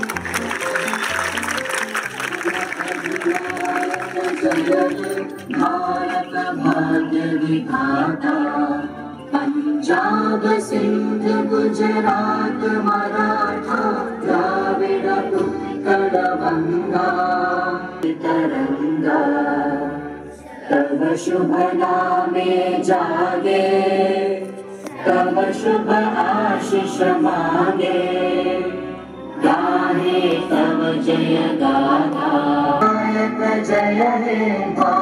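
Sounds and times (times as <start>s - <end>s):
children singing in chorus: 3.6s - 28.7s, 29.4s - 35.0s.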